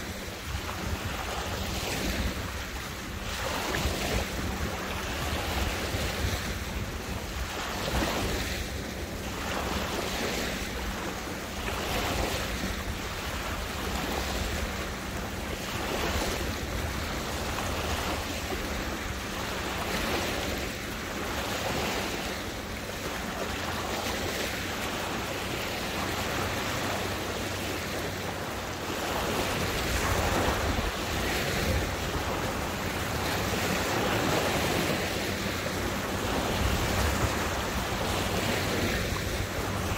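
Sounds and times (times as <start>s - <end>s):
water lapping and splashing: 0.0s - 39.9s
wind rumbling on microphone: 0.0s - 39.9s.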